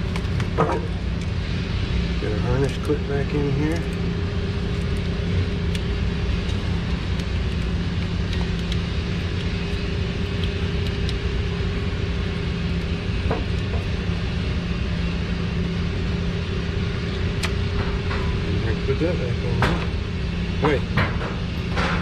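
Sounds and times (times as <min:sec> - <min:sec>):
engine running drone: 0:00.0 - 0:22.0.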